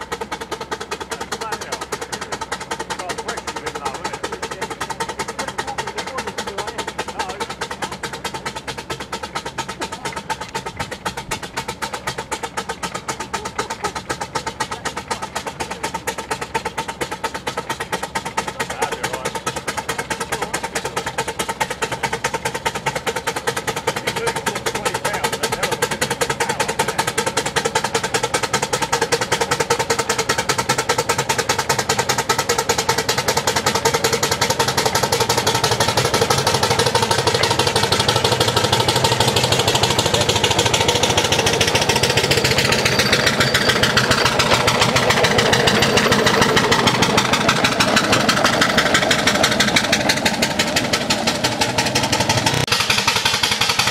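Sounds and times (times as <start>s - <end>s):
steam traction engine chuffing: 0.0s - 53.9s.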